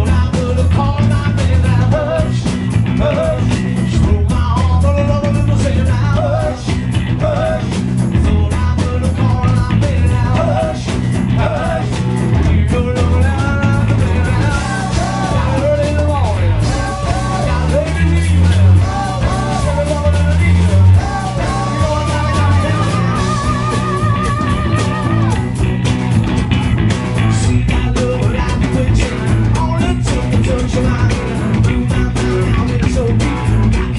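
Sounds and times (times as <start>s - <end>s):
singer: 0.0s - 25.6s, 27.2s - 33.9s
bass guitar: 0.0s - 33.9s
drum kit: 0.0s - 33.9s
electric guitars: 0.0s - 33.9s.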